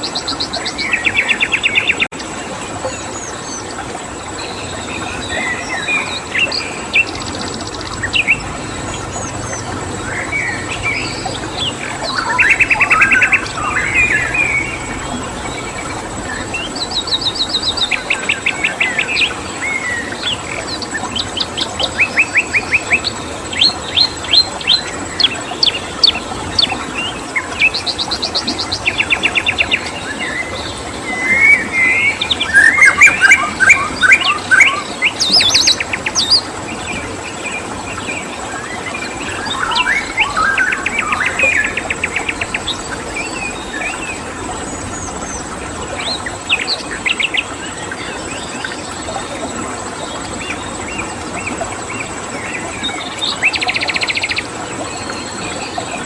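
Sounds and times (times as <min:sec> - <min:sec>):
running water: 0:00.0 - 0:56.0
songbirds trilling and chirping: 0:00.0 - 0:56.0.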